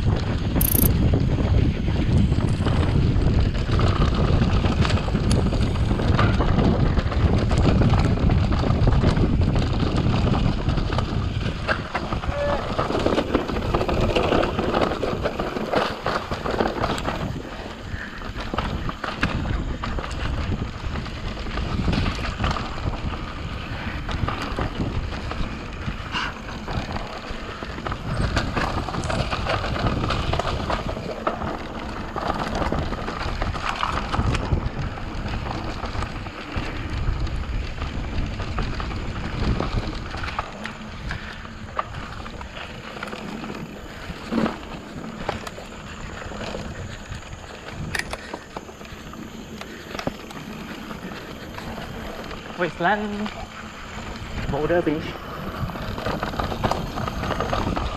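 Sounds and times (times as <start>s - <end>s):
bike rattling and knocking: 0.0s - 57.9s
bike tyres rolling over dirt: 0.0s - 57.9s
wind buffeting microphone: 0.0s - 57.9s.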